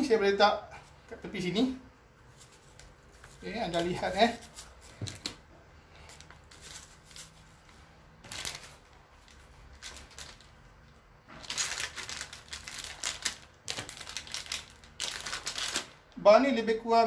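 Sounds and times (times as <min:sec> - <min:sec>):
plastic packets and fabric rustling: 0:01.4 - 0:16.2.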